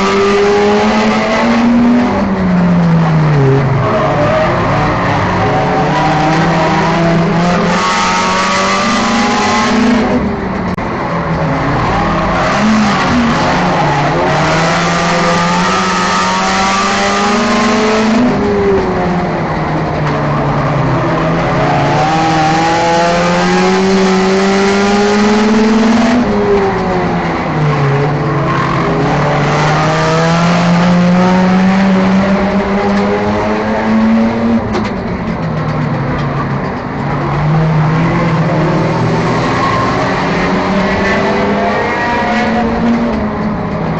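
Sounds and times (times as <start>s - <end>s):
race car engine accelerating: 0.0s - 43.9s.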